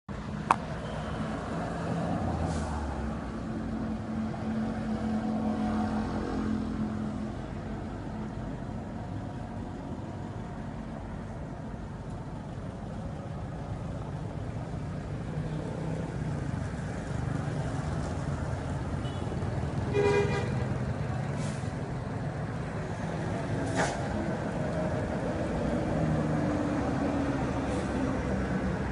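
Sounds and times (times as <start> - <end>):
coach engines approaching: 0.1 - 28.9
street traffic noise: 0.1 - 28.9.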